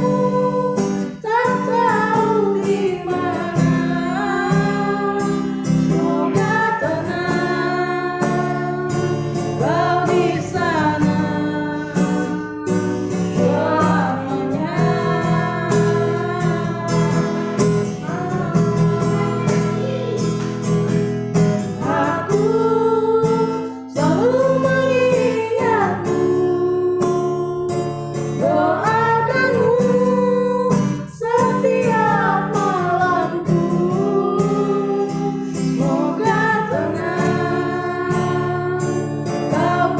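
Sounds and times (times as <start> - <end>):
person singing: 0.0 - 20.8, 21.6 - 39.9
acoustic guitar strumming: 0.0 - 39.9.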